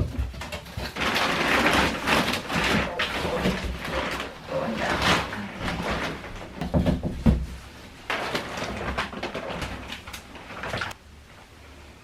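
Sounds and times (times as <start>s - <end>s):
packaging rustling and scraping: 0.0s - 11.0s.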